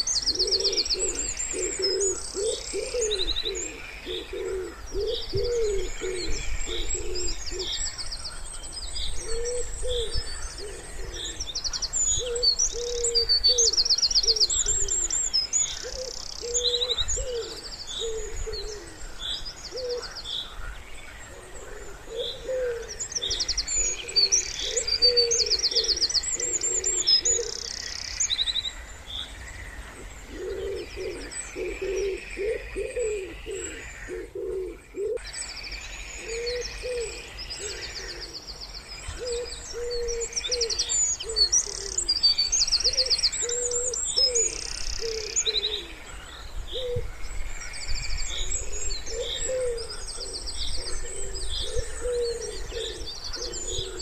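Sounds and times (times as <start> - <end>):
wood pigeon cooing: 0.0 - 7.8, 9.2 - 11.5, 12.2 - 15.2, 15.8 - 19.1, 19.7 - 20.2, 21.3 - 27.9, 29.9 - 35.2, 36.2 - 38.4, 39.1 - 42.2, 42.8 - 46.1, 46.7 - 47.1, 48.3 - 54.0
songbirds trilling and chirping: 0.0 - 54.0.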